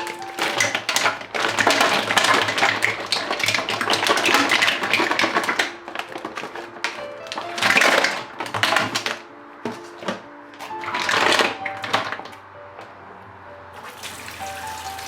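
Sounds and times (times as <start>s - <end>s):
small hard objects clattering: 0.0s - 12.3s.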